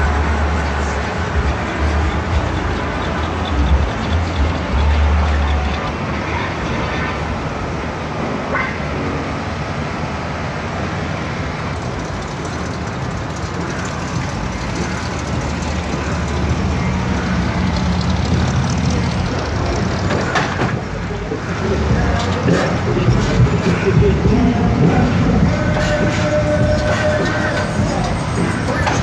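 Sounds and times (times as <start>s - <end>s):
car engines rumbling: 0.0s - 29.0s
outdoor noise: 0.0s - 29.0s.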